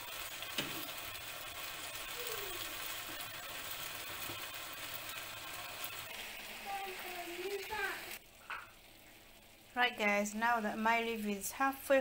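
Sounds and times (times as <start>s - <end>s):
liver and onions sizzling in a pan: 0.0s - 12.0s.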